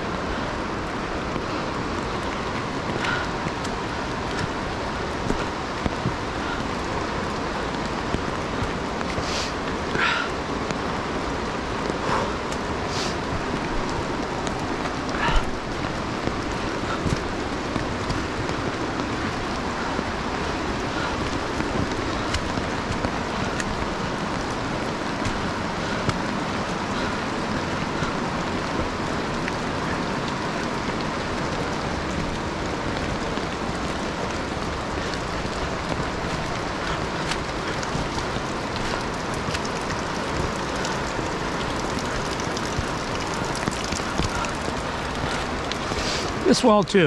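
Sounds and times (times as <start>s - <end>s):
footsteps on wet leafy trail: 0.0s - 47.0s
river water rushing: 0.0s - 47.0s.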